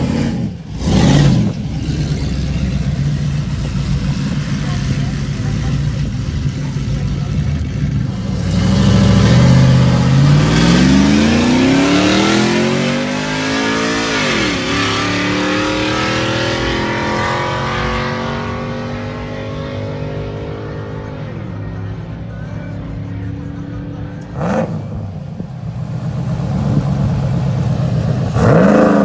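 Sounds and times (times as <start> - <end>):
truck engine accelerating: 0.0 - 29.0.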